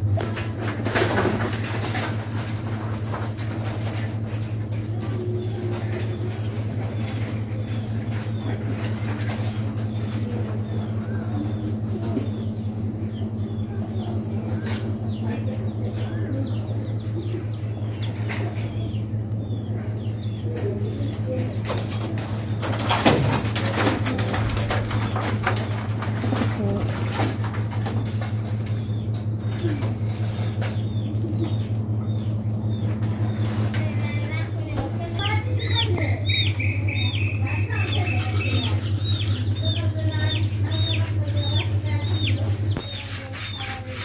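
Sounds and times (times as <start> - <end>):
birds chirping: 0.0 - 44.0
pigeons cooing: 0.0 - 44.0
steady low hum: 0.0 - 44.0.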